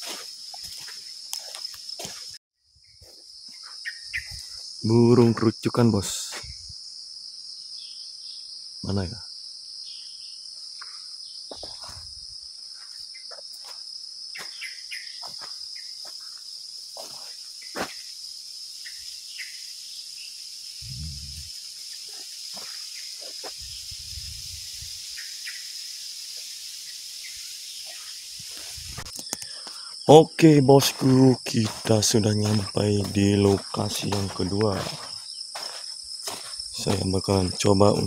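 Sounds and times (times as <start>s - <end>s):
high-pitched insect chorus: 0.0s - 38.0s.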